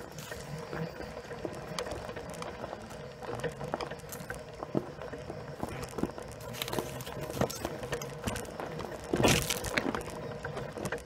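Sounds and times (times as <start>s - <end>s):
electric motor whine: 0.0s - 11.0s
tyres crunching over gravel: 0.0s - 11.0s.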